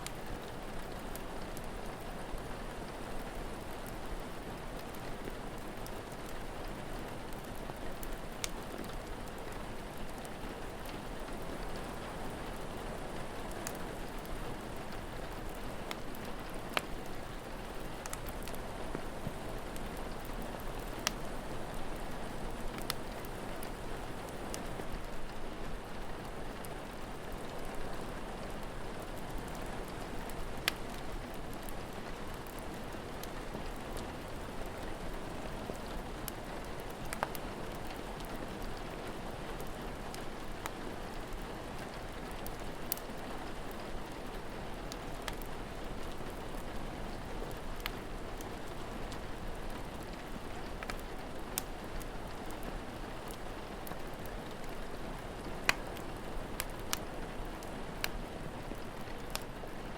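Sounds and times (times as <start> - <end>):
steady rain falling: 0.0 - 59.9
wood fire popping: 2.8 - 27.8, 28.5 - 38.9, 39.6 - 59.8.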